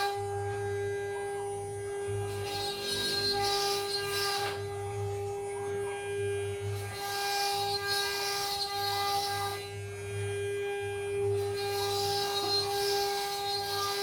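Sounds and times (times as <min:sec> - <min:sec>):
router bit cutting panel: 0:00.0 - 0:14.0
router spindle whine: 0:00.0 - 0:14.0.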